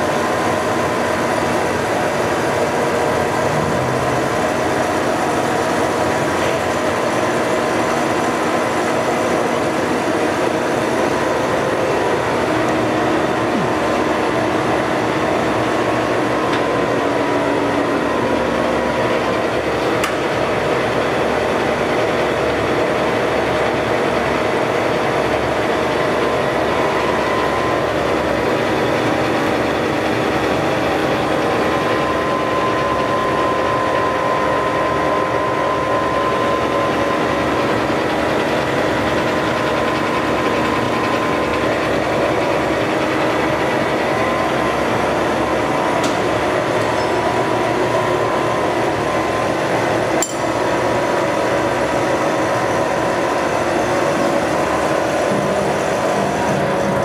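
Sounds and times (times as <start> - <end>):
grinder machine humming: 0.0 - 57.0.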